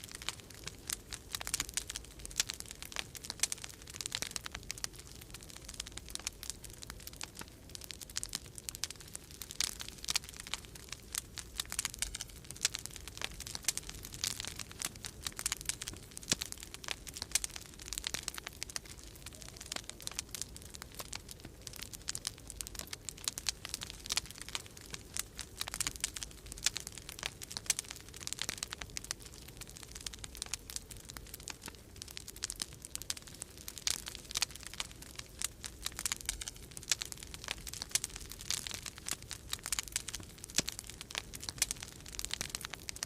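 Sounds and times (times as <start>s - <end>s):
low rumble of storm wind: 0.0s - 43.0s
wood fire crackling: 0.0s - 43.0s.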